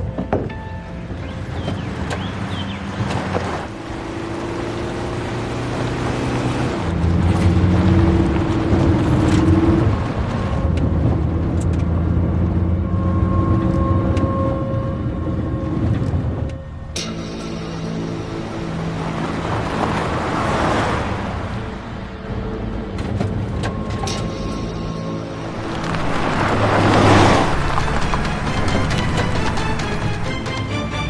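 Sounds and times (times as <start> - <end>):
road or wind noise: 0.0 - 31.0.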